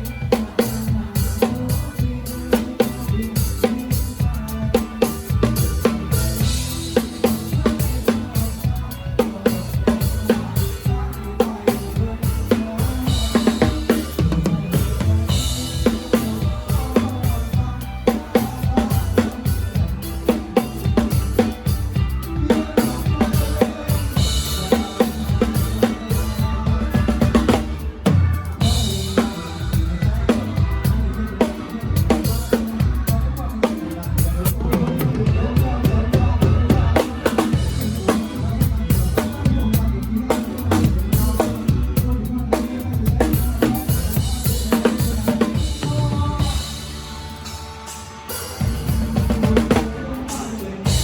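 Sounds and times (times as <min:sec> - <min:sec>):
drum kit playing steady beat: 0:00.0 - 0:51.0
rock band playing: 0:00.0 - 0:51.0.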